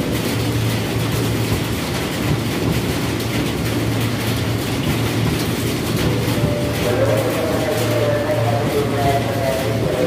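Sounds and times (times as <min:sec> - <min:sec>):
rain falling on platform: 0:00.0 - 0:10.0
train wheels rumbling on rails: 0:00.0 - 0:10.0.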